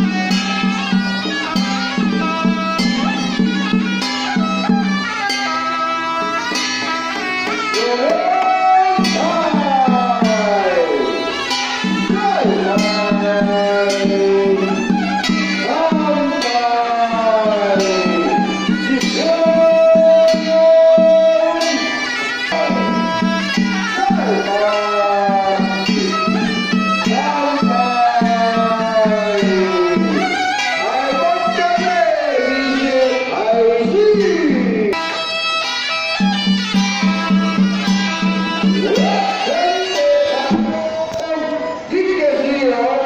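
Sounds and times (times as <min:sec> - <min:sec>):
ceremonial music with sliding notes: 0:00.0 - 0:43.0.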